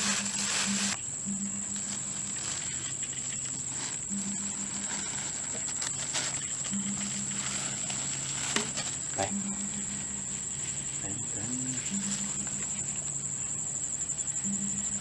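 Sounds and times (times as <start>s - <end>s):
insects trilling: 0.0s - 15.0s
low pulsing call: 0.0s - 15.0s.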